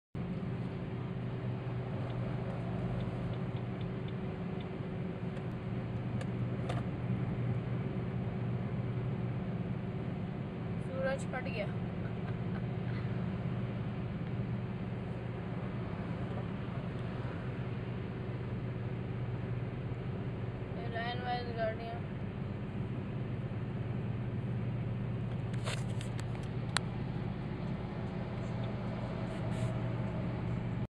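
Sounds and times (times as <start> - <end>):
car engine and road noise: 0.2 - 30.9.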